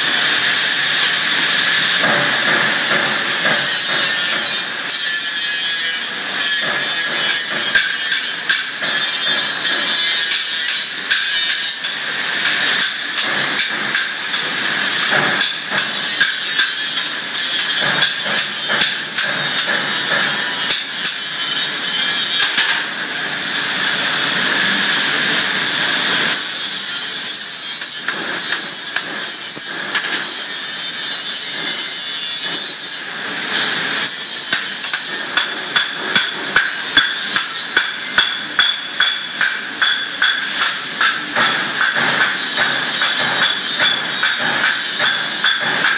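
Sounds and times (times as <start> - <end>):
workshop noise: 0.0 - 45.9.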